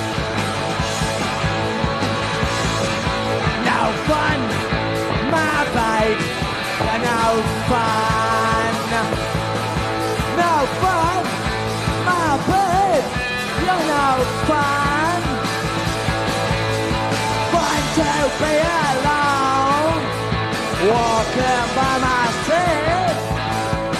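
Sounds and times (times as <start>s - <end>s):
distorted electric guitar: 0.0s - 23.9s
punk rock band playing: 0.0s - 23.9s.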